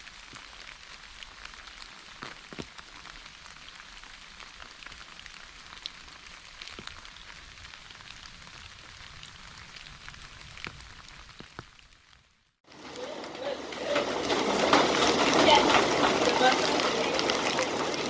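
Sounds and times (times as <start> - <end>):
raindrops ticking: 0.0 - 18.0
steady rain hiss: 0.0 - 18.0.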